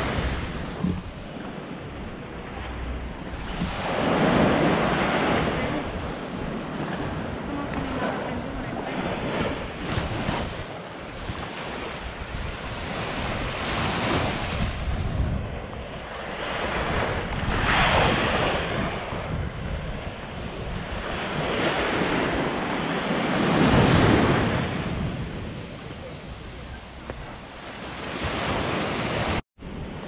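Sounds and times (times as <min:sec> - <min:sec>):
sea waves washing onto beach: 0:00.0 - 0:29.4
wind buffeting microphone: 0:00.0 - 0:30.0.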